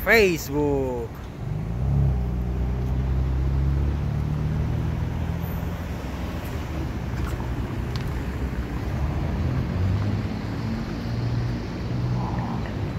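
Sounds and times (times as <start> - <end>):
street traffic: 0.0 - 12.9
vehicle engine rumbling nearby: 0.0 - 12.9.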